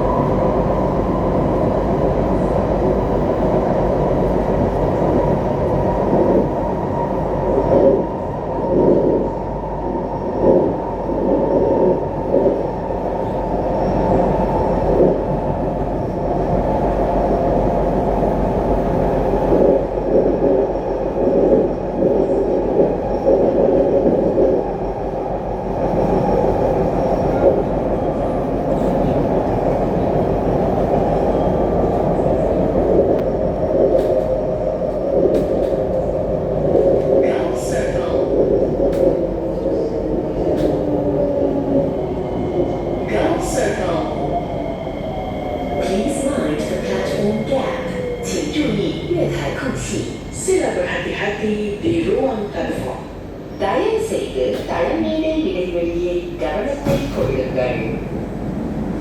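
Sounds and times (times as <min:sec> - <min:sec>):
metro train wheels rumbling on track: 0:00.0 - 0:59.0.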